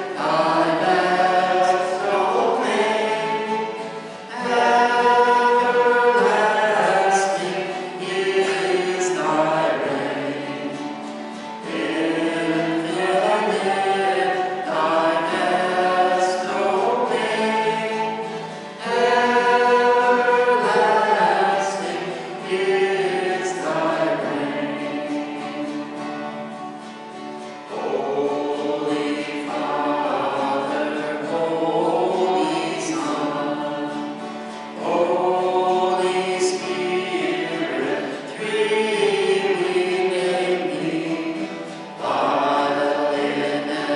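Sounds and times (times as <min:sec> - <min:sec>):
choir singing a hymn: 0:00.0 - 0:43.9.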